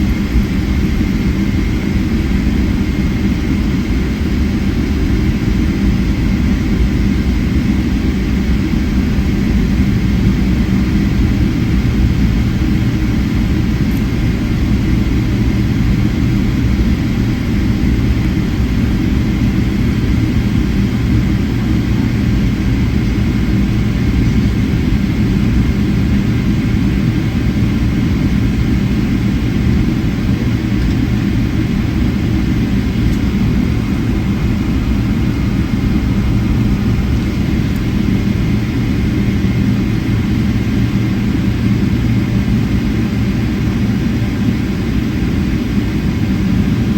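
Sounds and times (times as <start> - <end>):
high engine whine: 0.0 - 46.9
jet engines rumbling in cabin: 0.0 - 46.9.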